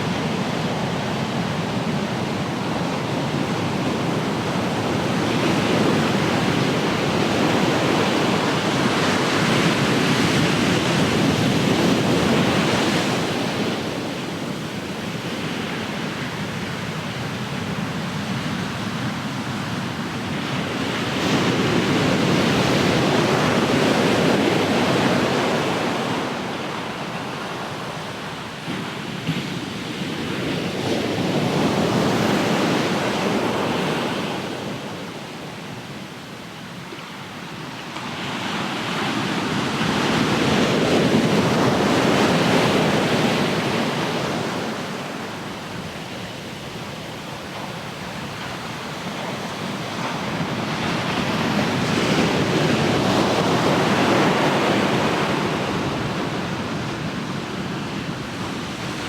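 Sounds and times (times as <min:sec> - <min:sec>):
waves breaking on shore: 0:00.3 - 0:59.0.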